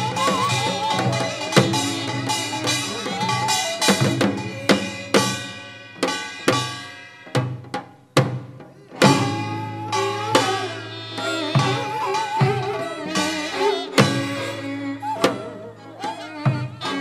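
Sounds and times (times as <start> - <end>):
wavering melody: 0.0 - 5.8, 9.0 - 17.0
ringing percussion strokes: 0.0 - 17.0.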